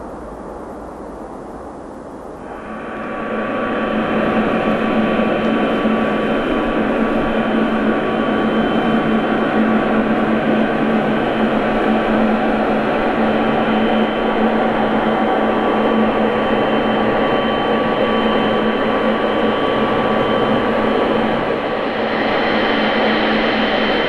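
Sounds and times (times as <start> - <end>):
jet engines whining and roaring: 0.0 - 24.0.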